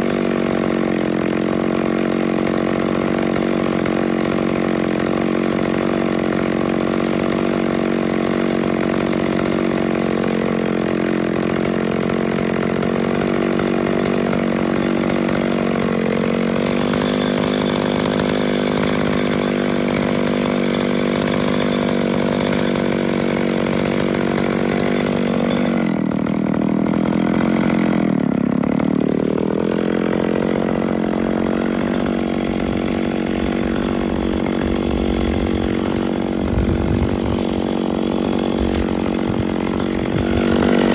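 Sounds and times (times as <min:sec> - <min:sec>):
chainsaw idling: 0:00.0 - 0:40.9.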